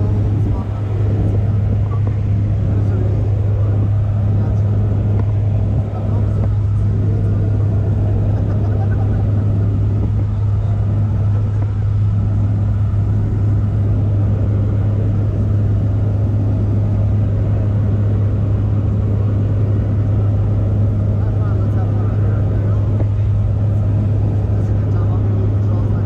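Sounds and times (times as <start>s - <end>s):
airplane engine and propeller hum: 0.0s - 26.0s.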